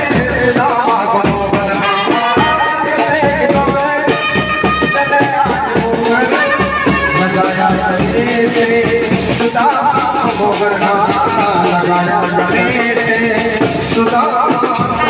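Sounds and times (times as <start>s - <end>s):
live band music over loudspeakers: 0.0s - 15.0s
quick steady drum beat: 0.0s - 15.0s.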